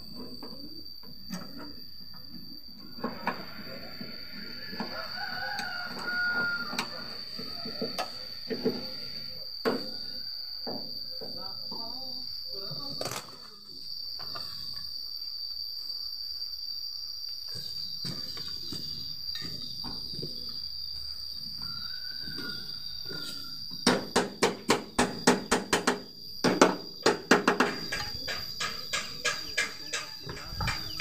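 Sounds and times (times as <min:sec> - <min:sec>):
high-pitched insect trill: 0:00.0 - 0:31.0.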